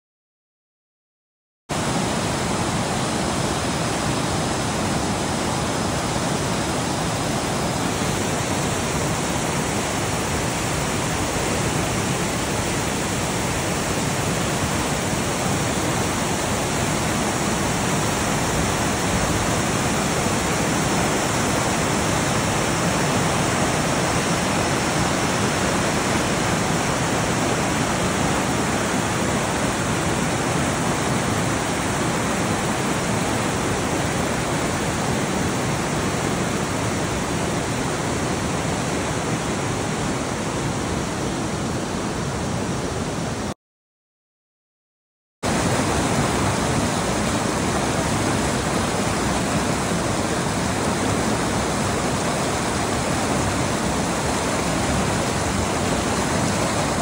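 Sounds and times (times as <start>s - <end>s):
river rushing over rapids: 1.7s - 43.6s, 45.5s - 57.0s.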